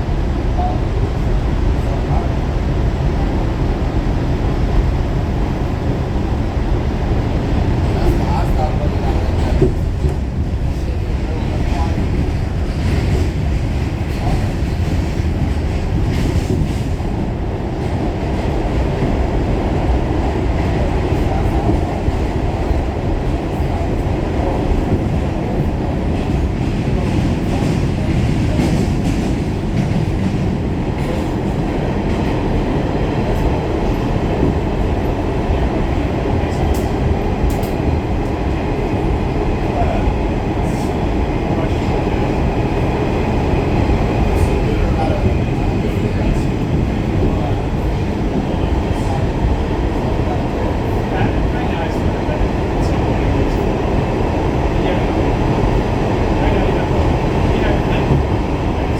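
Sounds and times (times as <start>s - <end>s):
subway car wheels rumbling: 0.0s - 58.9s
clickety-clack over rail joints: 4.4s - 58.9s.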